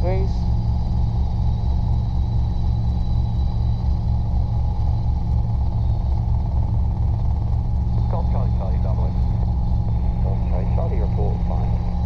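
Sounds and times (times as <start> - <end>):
helicopter rotor drone: 0.0 - 12.0
thin high whine: 0.0 - 12.0.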